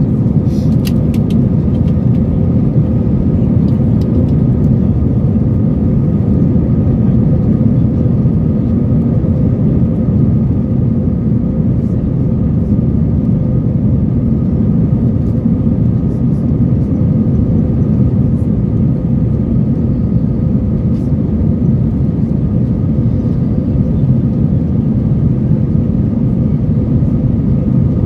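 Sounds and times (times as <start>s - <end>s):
jet engine and airflow rumble: 0.0s - 28.0s.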